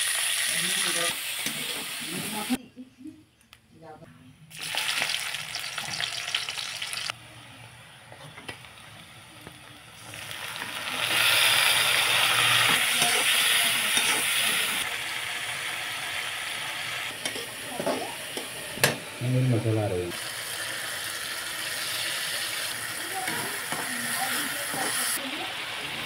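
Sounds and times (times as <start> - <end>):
vegetables sizzling in hot oil: 0.0 - 2.5, 4.5 - 7.2, 8.6 - 26.0.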